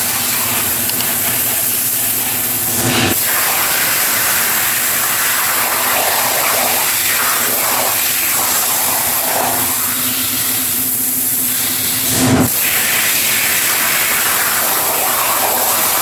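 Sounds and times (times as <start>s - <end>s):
loud steady hiss: 0.0s - 16.0s.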